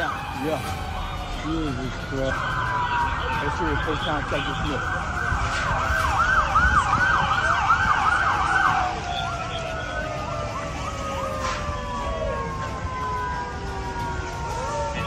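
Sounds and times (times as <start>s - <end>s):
low siren tone sliding downward: 0.0s - 15.0s
siren yelping: 0.0s - 15.0s.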